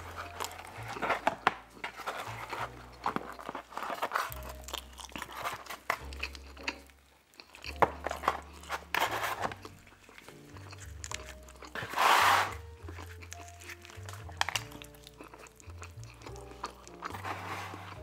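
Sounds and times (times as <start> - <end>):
close chewing and mouth smacking: 0.0 - 18.0.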